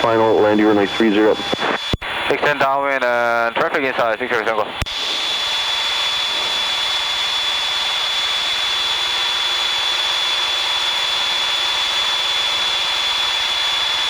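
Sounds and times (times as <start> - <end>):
thin high whine: 0.0 - 11.4
small plane cabin drone: 0.0 - 14.0.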